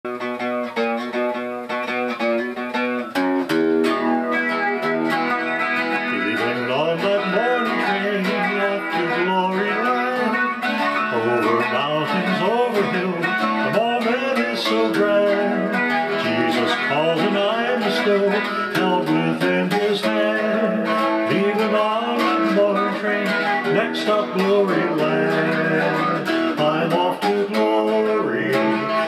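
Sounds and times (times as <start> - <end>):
electric guitar chords: 0.1 - 29.0
guitar lead melody: 0.1 - 29.0.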